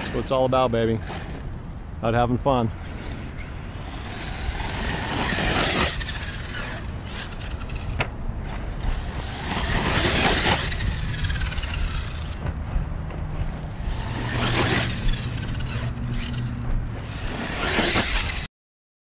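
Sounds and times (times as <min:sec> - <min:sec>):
rc truck motor whine: 0:00.0 - 0:01.5, 0:02.8 - 0:12.5, 0:13.4 - 0:18.5
wind rumble on microphone: 0:00.0 - 0:18.5.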